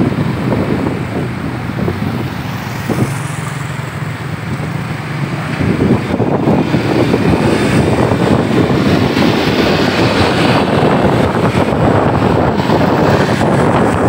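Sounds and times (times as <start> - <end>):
road traffic: 0.0 - 14.0
wind buffeting microphone: 0.0 - 14.0.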